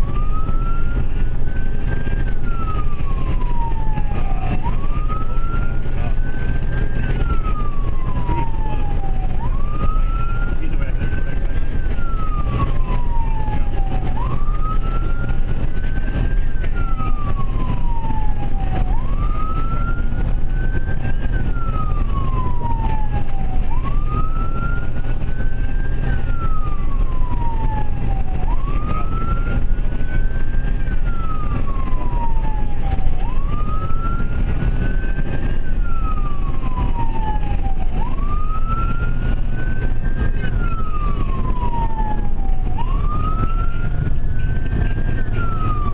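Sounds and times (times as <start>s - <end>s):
ambulance siren wailing: 0.0s - 45.9s
road and engine rumble: 0.0s - 45.9s.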